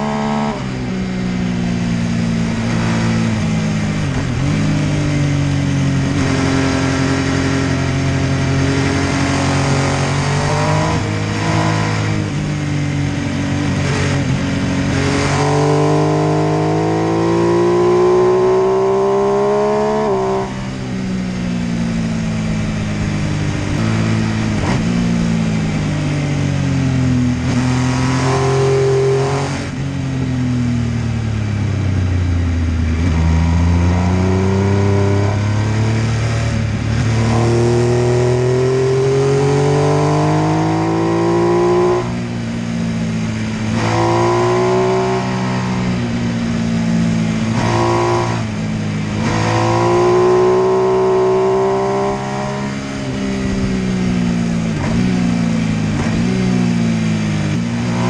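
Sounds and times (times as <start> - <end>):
motorcycle engine accelerating hard: 0.0 - 58.0.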